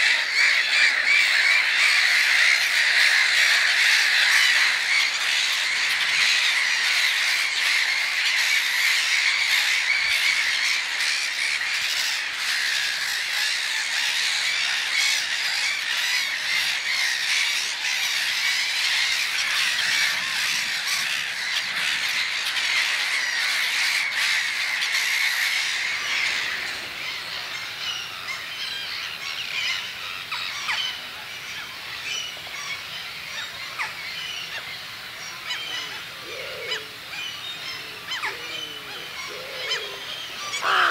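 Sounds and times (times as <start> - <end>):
flock of birds squawking: 0.0 - 40.9.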